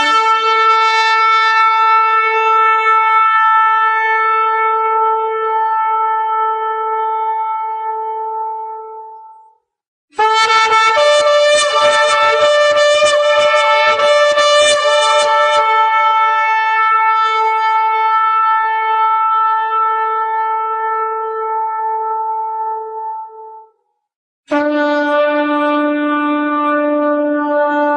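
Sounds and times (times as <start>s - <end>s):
shofar blasts: 0.0s - 9.2s, 10.2s - 23.7s, 24.5s - 27.9s.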